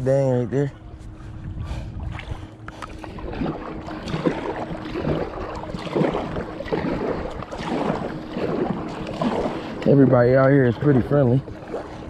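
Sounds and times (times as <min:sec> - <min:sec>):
faint steady hum: 0:00.0 - 0:12.0
wind rumbling on microphone: 0:00.0 - 0:12.0
paddle strokes splashing water: 0:00.6 - 0:12.0.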